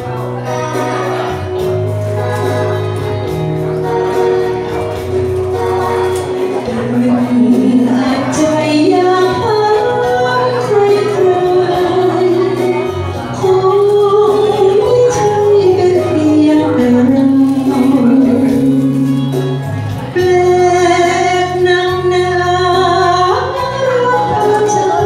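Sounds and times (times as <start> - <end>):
backing music: 0.0 - 25.0
woman singing: 2.2 - 25.0.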